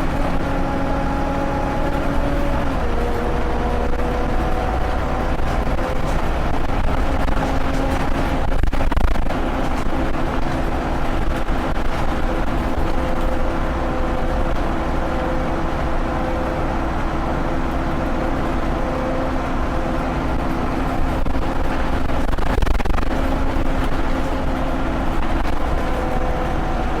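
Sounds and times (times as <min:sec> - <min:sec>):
bus engine and road drone: 0:00.0 - 0:27.0.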